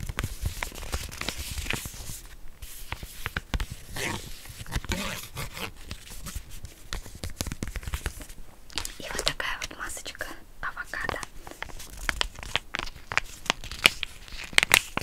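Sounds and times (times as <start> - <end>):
packet crinkling: 0.0 - 9.8, 11.0 - 15.0.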